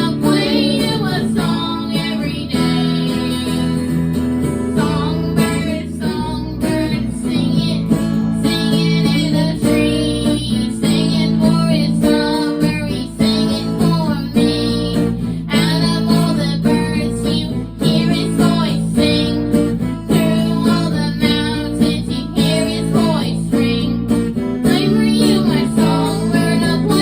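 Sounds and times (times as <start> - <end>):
acoustic guitar strumming: 0.0 - 27.0
person singing: 0.0 - 27.0.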